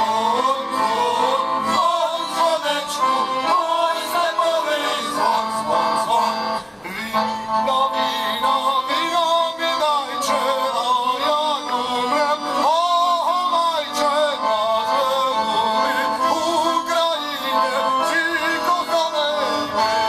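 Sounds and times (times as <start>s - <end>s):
accordions: 0.0s - 20.0s
violins: 0.0s - 20.0s.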